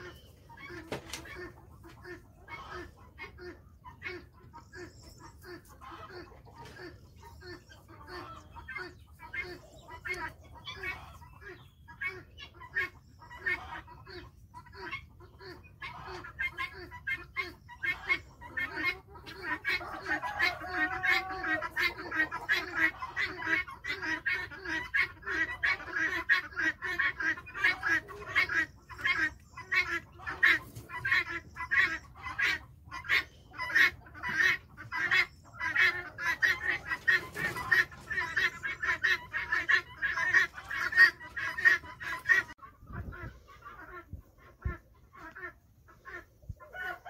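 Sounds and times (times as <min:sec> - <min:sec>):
poultry calling: 0:00.0 - 0:47.0.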